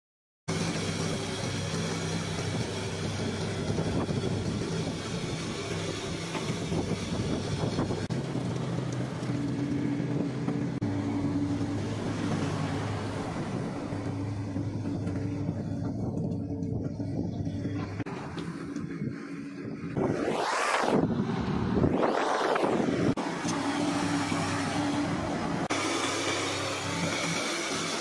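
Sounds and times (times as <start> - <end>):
excavator diesel engine running: 0.5 - 20.0, 21.2 - 28.0.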